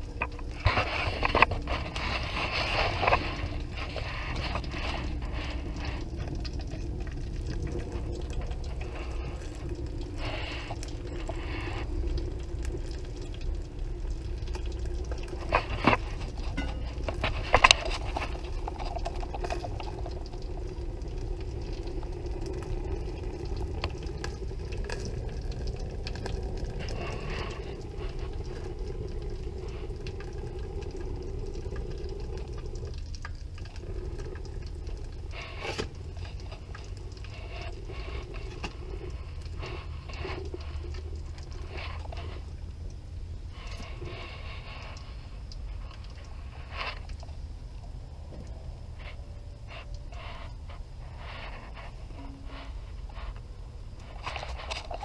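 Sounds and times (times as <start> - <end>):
stove low hum: 0.0 - 55.0
wood fire crackling in stove: 0.0 - 55.0.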